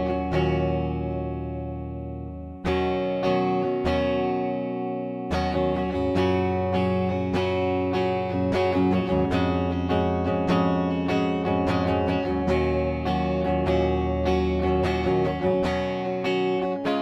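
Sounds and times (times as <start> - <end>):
clean electric guitar chords: 0.0 - 17.0.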